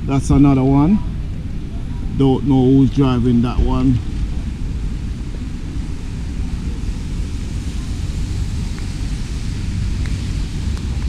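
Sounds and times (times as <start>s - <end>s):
light hiss: 0.8s - 11.0s.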